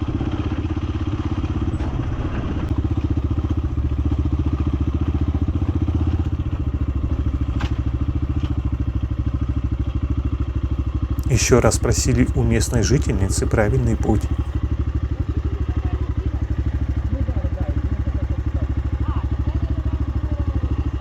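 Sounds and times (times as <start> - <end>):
small motorcycle engine running: 0.0 - 21.0.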